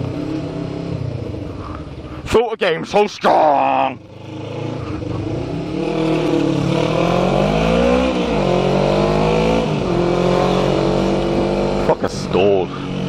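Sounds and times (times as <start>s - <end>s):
motorcycle engine revving: 0.0s - 2.1s, 3.6s - 13.0s.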